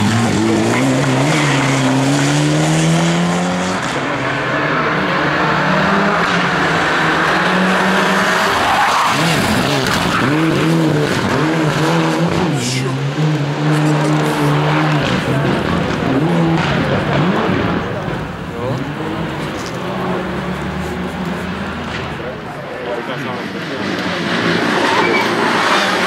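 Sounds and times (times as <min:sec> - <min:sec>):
rally car engine revving: 0:00.0 - 0:26.0
tyres skidding on tarmac: 0:00.0 - 0:26.0.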